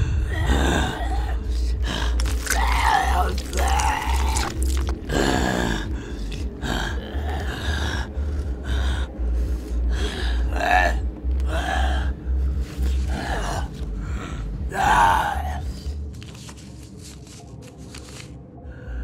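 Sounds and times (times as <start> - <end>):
low steady hum: 0.0 - 19.0
men groaning like zombies: 0.2 - 15.8.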